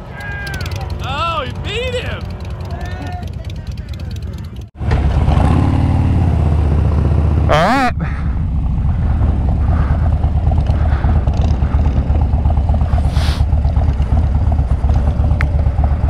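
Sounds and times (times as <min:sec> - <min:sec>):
motorcycle engine low rumble: 0:00.0 - 0:16.0.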